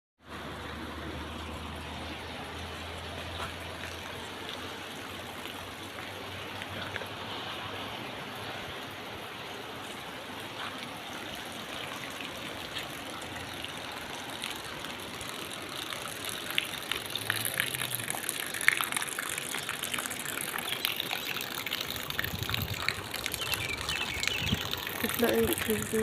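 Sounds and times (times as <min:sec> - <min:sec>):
rain: 0:00.2 - 0:26.0
running water: 0:00.2 - 0:26.0.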